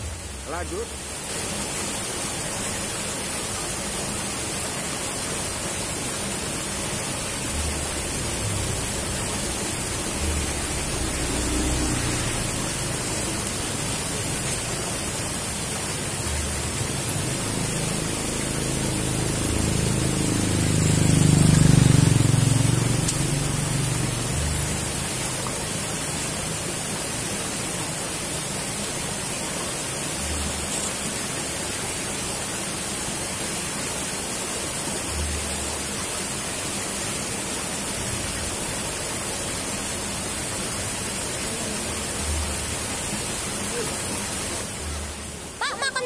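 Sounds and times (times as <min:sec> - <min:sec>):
water rushing and splashing: 0:00.0 - 0:46.0.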